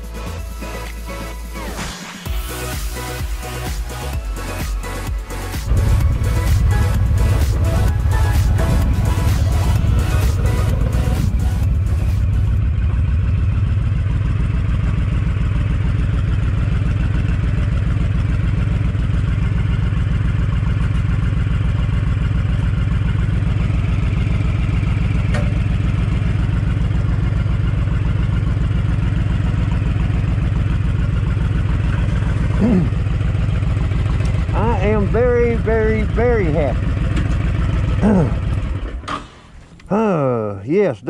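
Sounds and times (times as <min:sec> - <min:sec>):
motorcycle engine idling: 0:02.3 - 0:40.4.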